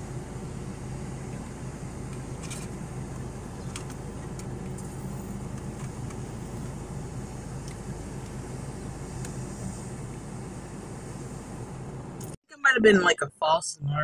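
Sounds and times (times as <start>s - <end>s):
vehicle engine idling: 0.0s - 12.4s.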